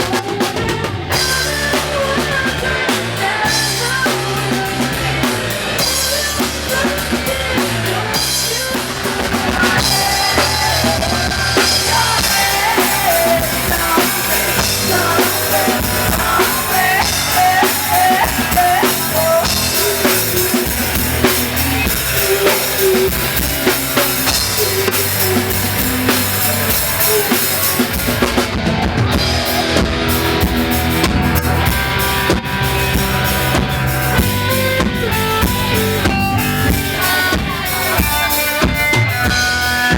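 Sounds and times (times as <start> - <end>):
drum kit beat: 0.0 - 39.9
rock band music: 0.0 - 39.9.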